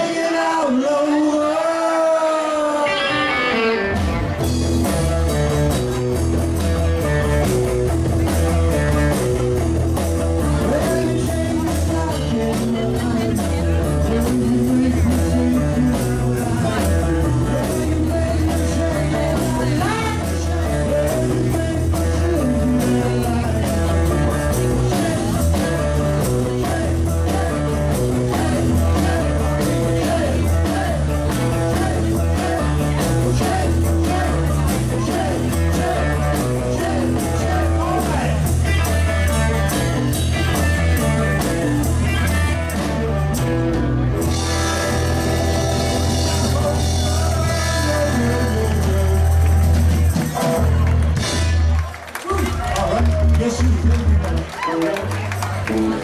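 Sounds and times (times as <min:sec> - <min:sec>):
band playing with strong bass: 0:00.0 - 0:56.0.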